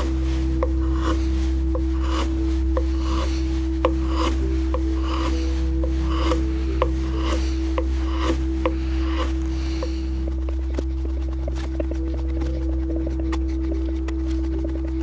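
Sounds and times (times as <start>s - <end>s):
gouge scraping through wood: 0.0s - 15.0s
soft ticking: 0.0s - 15.0s
steady low hum: 0.0s - 15.0s.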